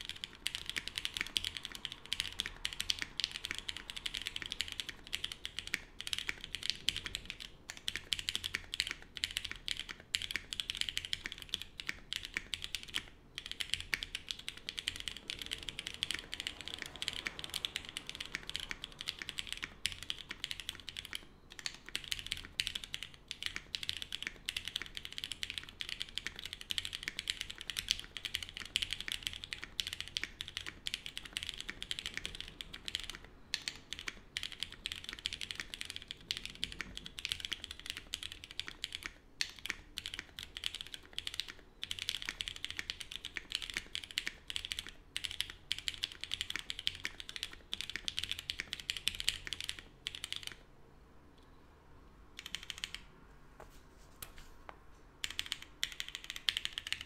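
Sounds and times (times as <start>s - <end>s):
fast keyboard typing: 0.0s - 50.7s, 52.4s - 53.1s, 55.2s - 57.0s.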